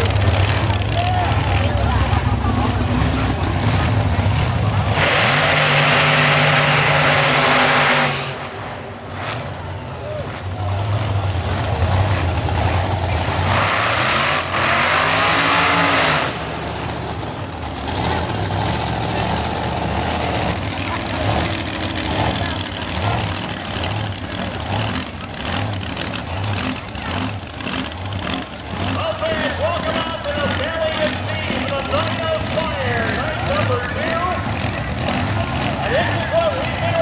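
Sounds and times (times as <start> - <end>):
drag car engines rumbling: 0.0 - 37.0.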